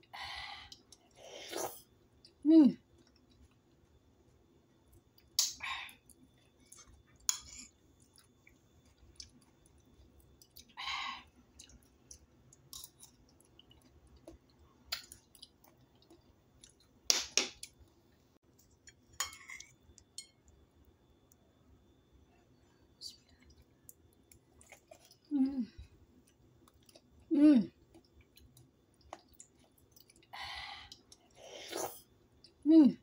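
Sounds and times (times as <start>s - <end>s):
soft wet chewing: 0.6s - 17.0s, 17.6s - 32.6s.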